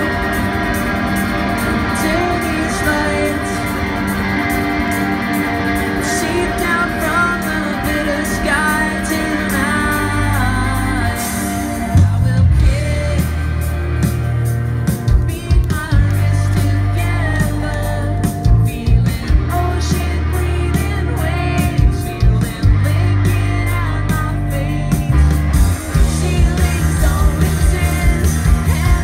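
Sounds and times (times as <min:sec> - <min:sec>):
lead vocal singing: 0:00.0 - 0:29.0
live rock band: 0:00.0 - 0:29.0.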